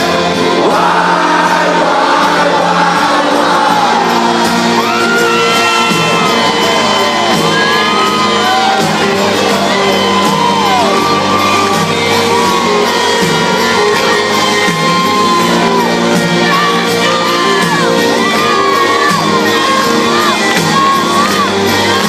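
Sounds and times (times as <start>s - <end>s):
crowd singing along and whooping: 0.0s - 22.0s
live rock band playing: 0.0s - 22.0s.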